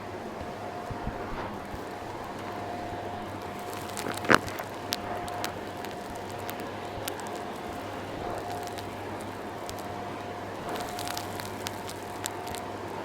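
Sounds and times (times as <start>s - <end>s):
debris crackling through hose: 1.3s - 13.0s.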